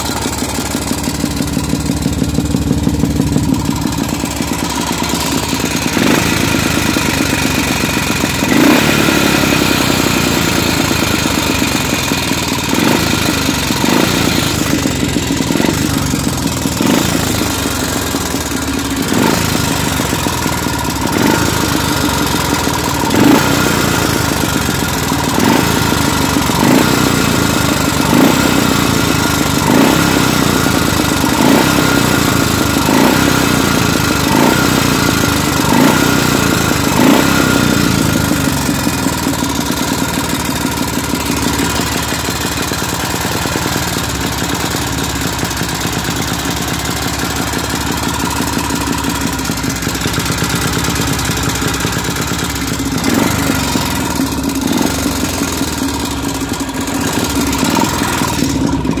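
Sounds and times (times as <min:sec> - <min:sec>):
motorcycle engine idling: 0:00.0 - 0:59.0
motorcycle engine throttle blips: 0:00.0 - 0:59.0.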